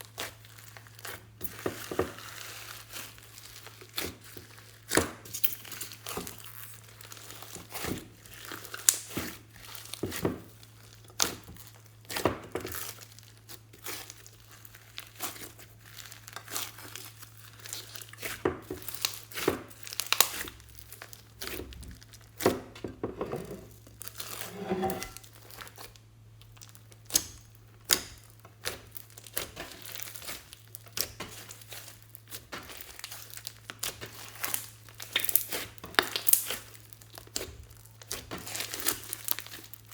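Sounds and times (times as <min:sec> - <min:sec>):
slime crackling and popping: 0:02.2 - 0:22.4, 0:25.3 - 0:39.9.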